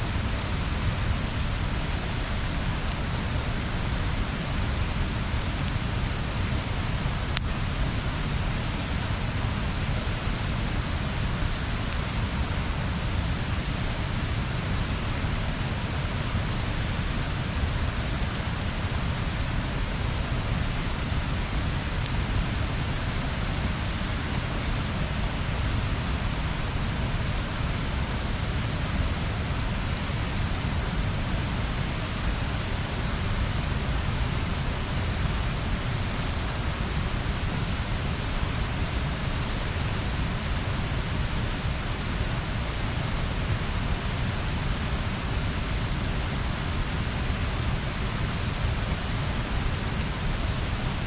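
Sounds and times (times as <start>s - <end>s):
fire popping: 0.0s - 25.4s, 26.0s - 51.0s
bonfire hissing: 0.0s - 51.0s.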